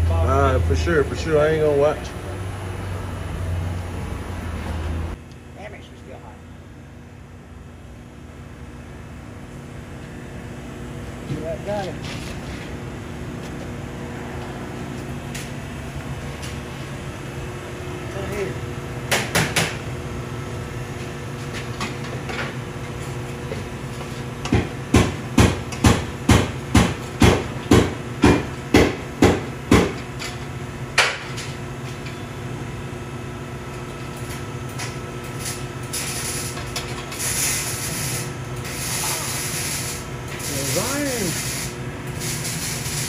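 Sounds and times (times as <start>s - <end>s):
steady background hum: 0.0s - 43.0s.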